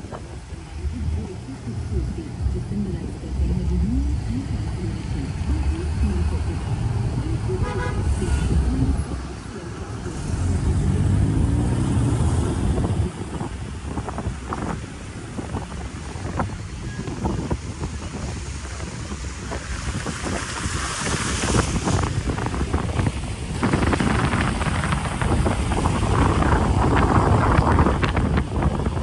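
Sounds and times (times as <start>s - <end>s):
low rumbles: 0.0s - 29.0s
steady rush of noise: 0.0s - 29.0s
wind buffeting the microphone: 0.0s - 29.0s.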